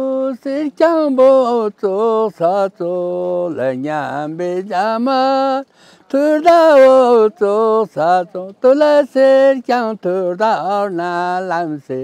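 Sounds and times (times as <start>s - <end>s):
elderly man singing: 0.0s - 12.0s.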